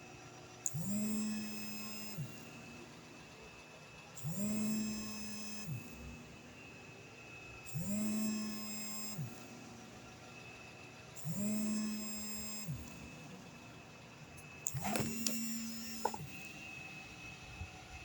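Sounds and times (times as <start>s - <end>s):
small electric motor running: 0.0s - 18.0s.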